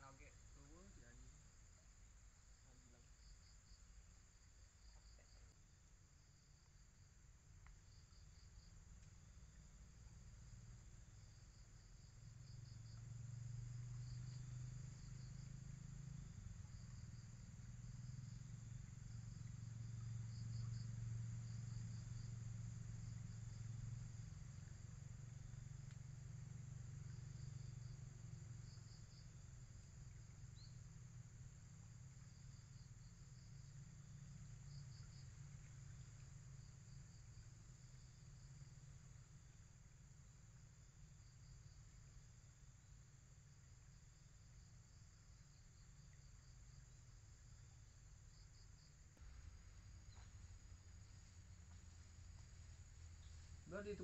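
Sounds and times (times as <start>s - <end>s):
insects chirping: 0.0s - 54.0s
low steady hum: 0.0s - 54.0s
steady high hiss: 0.0s - 54.0s.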